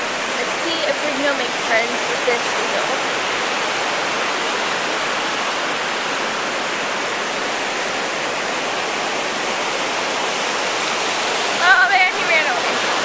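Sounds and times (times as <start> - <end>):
surf hissing on a beach: 0.0 - 13.0.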